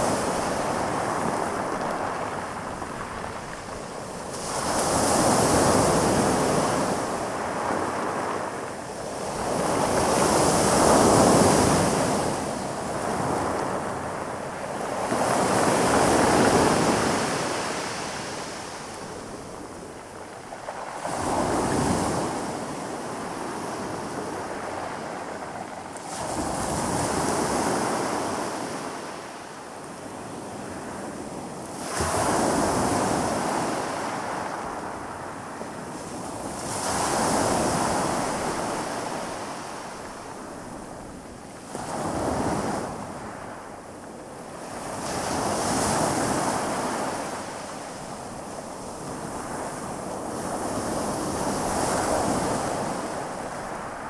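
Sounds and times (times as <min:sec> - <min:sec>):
waves washing on pebble beach: 0:00.0 - 0:54.0.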